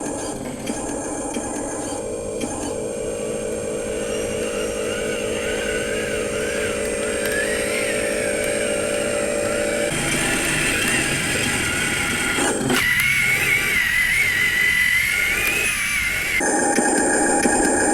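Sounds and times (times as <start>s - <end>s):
motor hum: 0.0s - 17.9s
high wavering whine: 1.9s - 17.9s.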